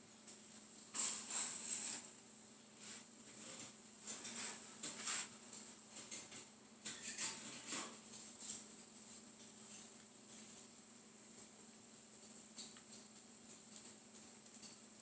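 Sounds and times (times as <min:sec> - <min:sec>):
faint steady hum: 0:00.0 - 0:15.0
rustling and scratching: 0:00.2 - 0:15.0.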